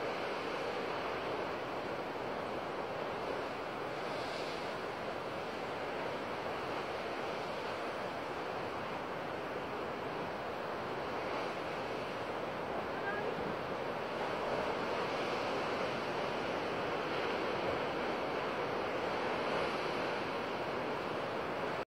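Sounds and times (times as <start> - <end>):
surf washing over rocks: 0.0 - 21.8.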